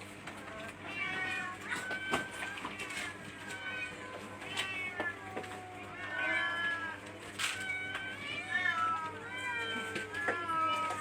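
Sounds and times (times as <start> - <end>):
cats meowing: 0.4 - 11.0.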